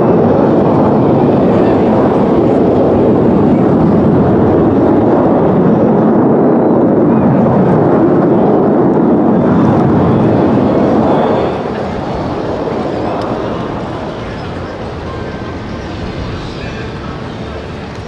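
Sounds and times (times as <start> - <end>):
jet aircraft passing overhead: 0.0 - 18.0.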